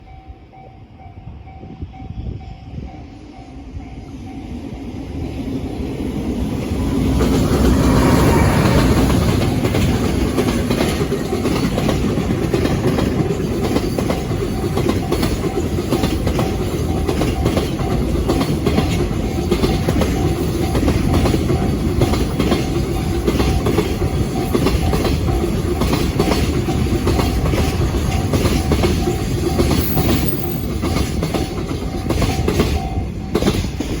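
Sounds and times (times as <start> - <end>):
freight train passing: 0.0 - 34.0
wheels clacking over rail joints: 6.2 - 34.0.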